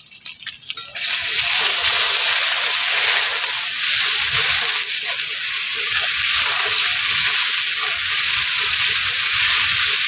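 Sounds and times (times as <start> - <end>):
paste sizzling in hot oil: 1.0 - 10.0.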